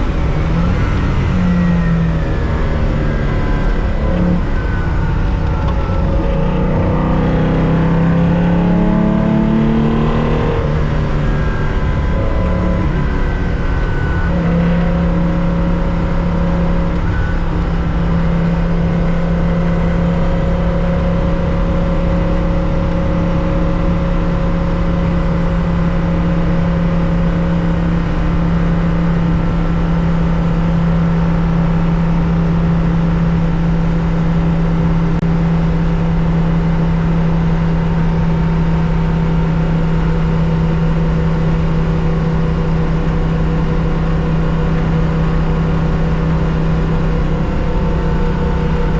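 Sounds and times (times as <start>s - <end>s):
car engine at steady pitch: 0.0s - 48.9s
road and wind noise: 0.0s - 48.9s.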